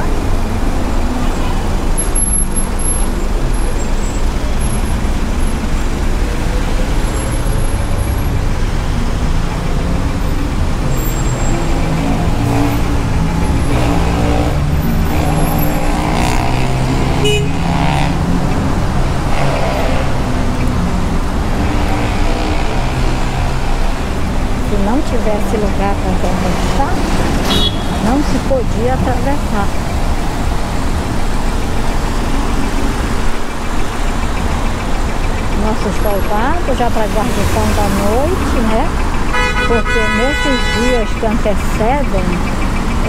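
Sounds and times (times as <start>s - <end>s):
city traffic rumble: 0.0s - 43.0s.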